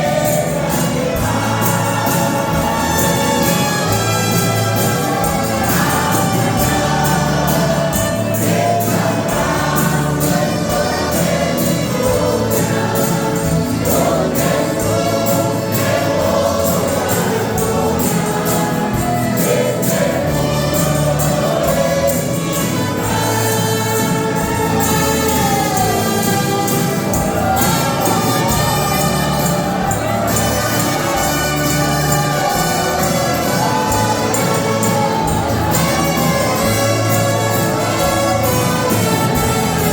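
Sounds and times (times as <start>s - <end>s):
choir singing: 0.0s - 39.9s
cymbals keeping a beat: 0.0s - 39.9s.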